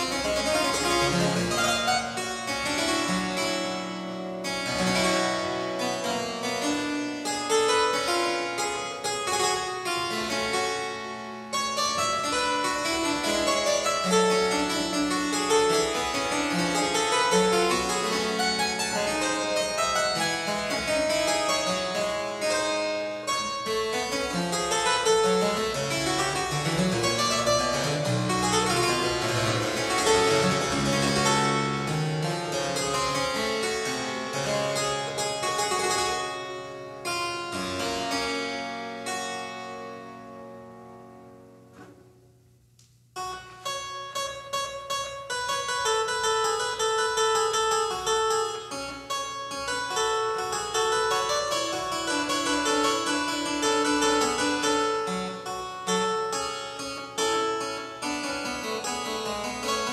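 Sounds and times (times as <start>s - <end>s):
harpsichord playing: 0.0s - 41.4s, 43.2s - 59.9s.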